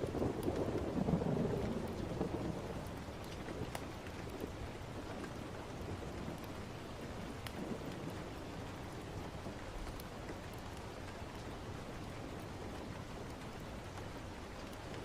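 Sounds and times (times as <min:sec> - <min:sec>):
rainfall hiss: 0:00.0 - 0:15.0.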